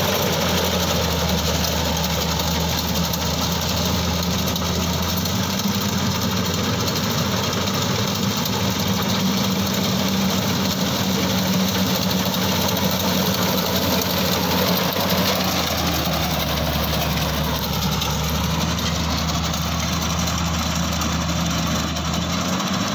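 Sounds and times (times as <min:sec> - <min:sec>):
diesel engine drone: 0:00.0 - 0:22.9
machinery clattering: 0:00.0 - 0:22.9.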